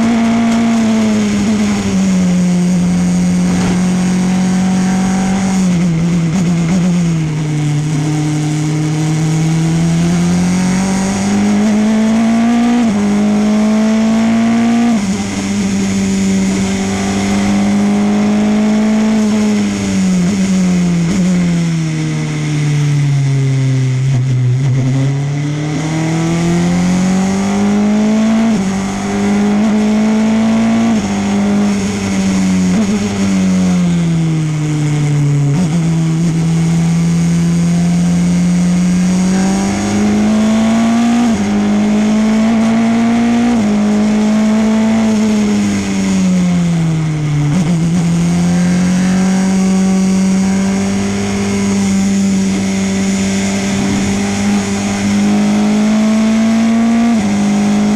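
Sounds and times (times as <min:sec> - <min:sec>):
race car engine: 0:00.0 - 0:57.9.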